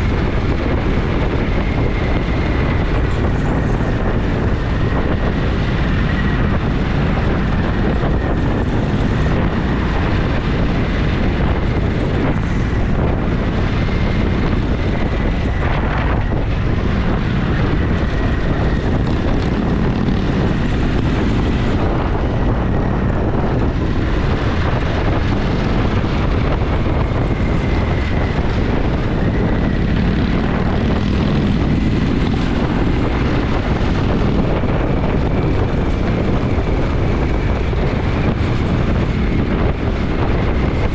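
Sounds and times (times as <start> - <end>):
motorcycle engine cruising: 0.0 - 40.9
wind noise on microphone: 0.0 - 40.9.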